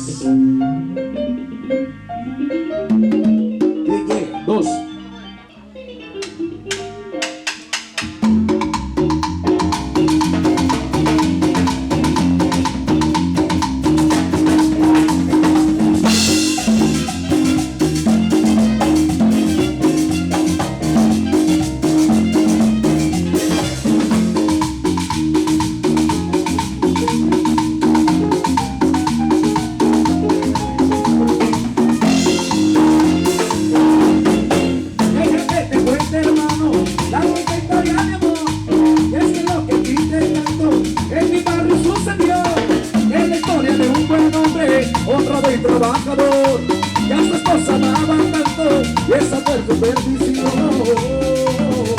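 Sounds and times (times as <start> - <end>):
live band playing cumbia: 0.0 - 51.9.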